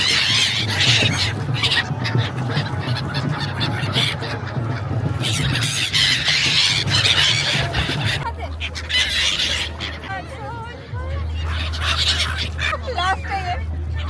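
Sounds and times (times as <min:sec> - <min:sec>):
birds squawking: 0:00.0 - 0:14.0.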